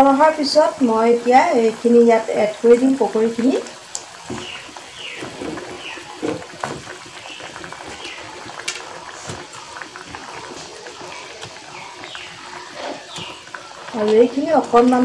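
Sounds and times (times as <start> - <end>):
gravy bubbling: 0.0 - 15.0
fritters plopping into gravy: 2.8 - 15.0.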